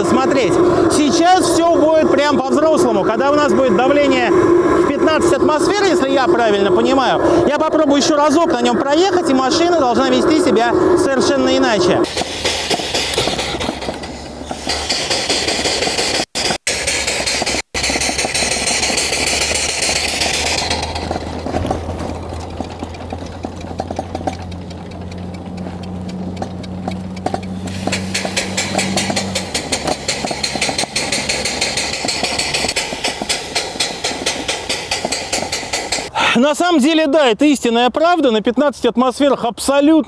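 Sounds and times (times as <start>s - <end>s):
steam engine chuffing: 0.0s - 36.2s.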